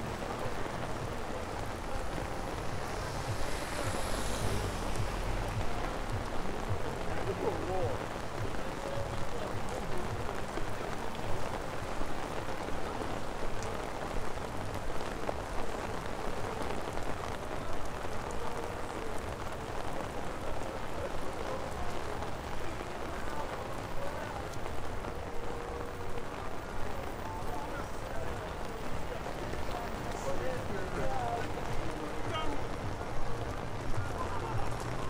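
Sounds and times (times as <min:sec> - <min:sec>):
rain hissing on street: 0:00.0 - 0:35.0
raindrop ticks: 0:00.2 - 0:35.0.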